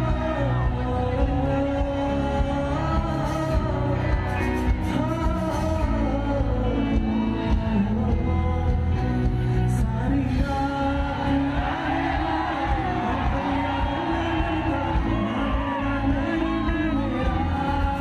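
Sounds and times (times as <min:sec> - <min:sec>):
man singing: 0:00.0 - 0:18.0
rock band playing: 0:00.0 - 0:18.0.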